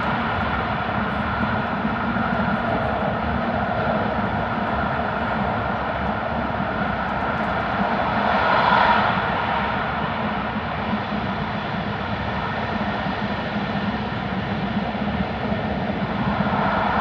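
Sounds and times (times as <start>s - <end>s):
train rumble inside tunnel: 0.0s - 17.0s.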